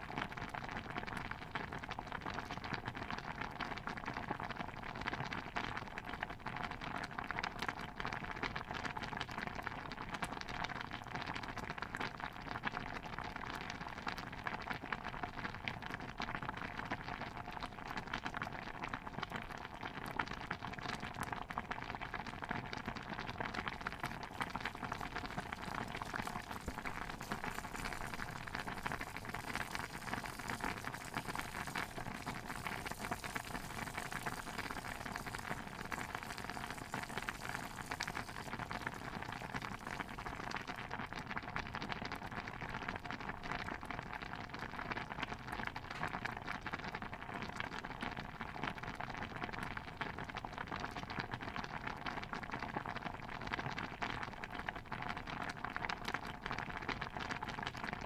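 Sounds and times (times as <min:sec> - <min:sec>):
thick stew bubbling in a pot: 0:00.0 - 0:58.0.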